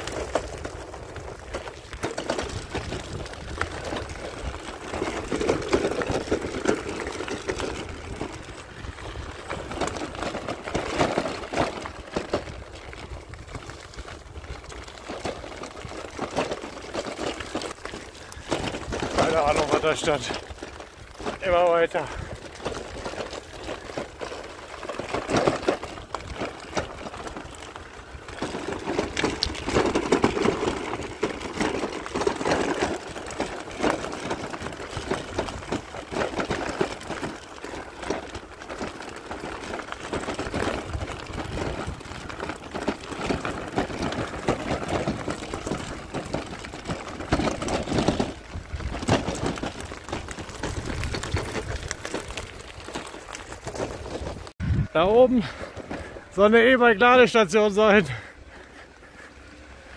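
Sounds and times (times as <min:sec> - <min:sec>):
e-bike motor whirring: 0:00.0 - 0:57.1
rattling and crackling: 0:00.0 - 0:59.9.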